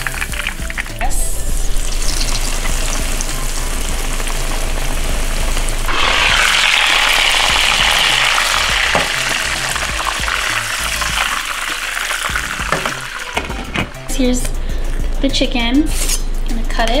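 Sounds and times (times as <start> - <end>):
chicken frying in oil: 0.0 - 13.8.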